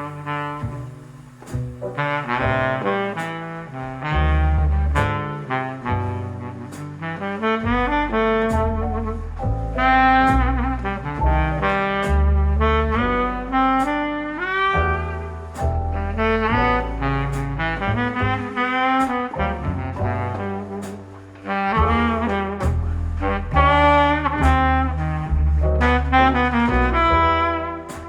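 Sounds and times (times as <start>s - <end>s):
horn playing jazz melody: 0.0s - 28.0s
low bass line: 0.0s - 28.0s.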